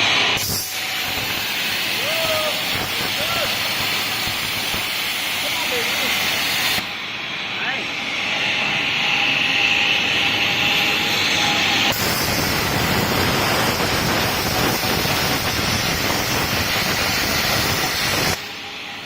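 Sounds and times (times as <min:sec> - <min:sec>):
plasma cutter arc hissing: 0:00.0 - 0:07.1, 0:10.7 - 0:18.9.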